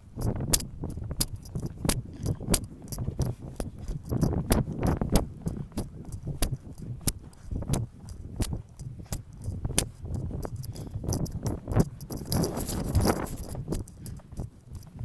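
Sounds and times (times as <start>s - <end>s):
hooves thudding on dirt: 0.0s - 15.0s
horse tack jingling: 0.2s - 15.0s.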